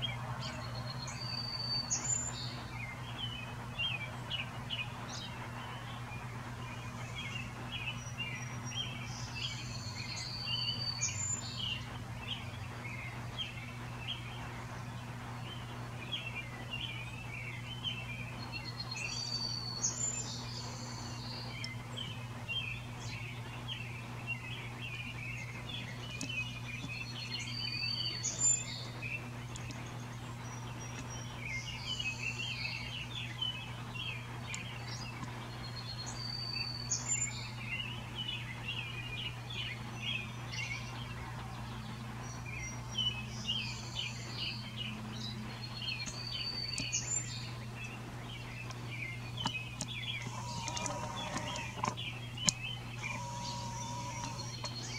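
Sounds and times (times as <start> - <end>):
bird repeating song phrase: 0.0 - 54.9
birds chirping: 0.0 - 54.9
steady low hum: 0.0 - 54.9.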